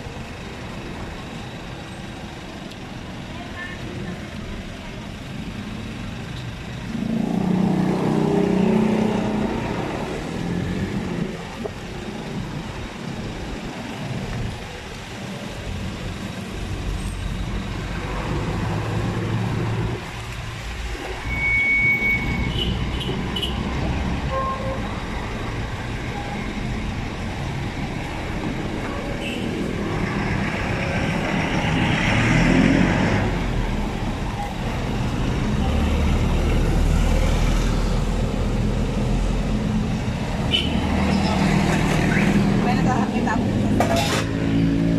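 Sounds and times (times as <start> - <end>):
traffic engine rumble: 0.0 - 44.9.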